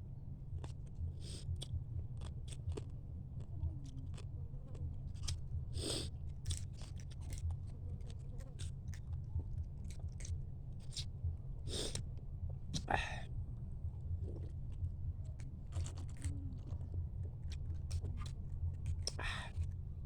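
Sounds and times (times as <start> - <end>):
steady low hum: 0.0 - 20.0
crab shell cracking and chewing: 0.6 - 11.1, 14.2 - 19.8.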